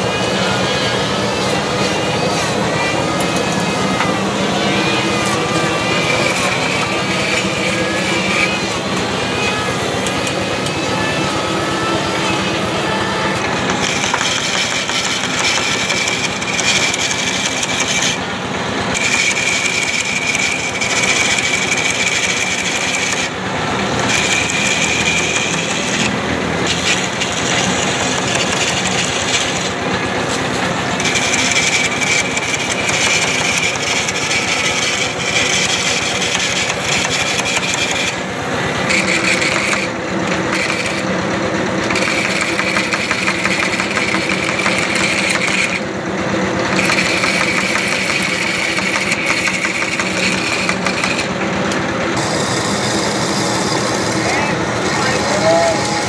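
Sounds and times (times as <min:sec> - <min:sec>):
lathe motor running: 0:00.0 - 0:56.0
cutting tool scraping wood: 0:01.3 - 0:18.2, 0:18.9 - 0:23.4, 0:24.0 - 0:41.1, 0:41.8 - 0:45.8, 0:46.7 - 0:56.0.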